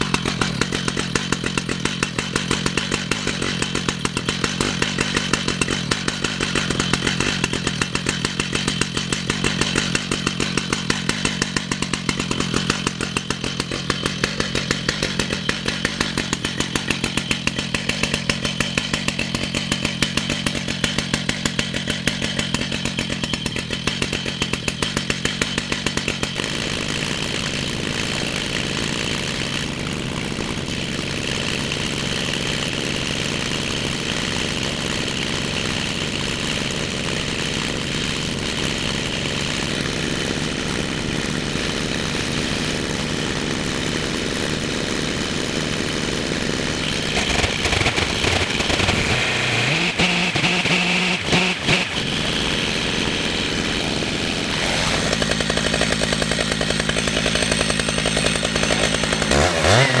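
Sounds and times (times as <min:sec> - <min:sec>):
chainsaw cutting log: 0:00.0 - 1:00.0.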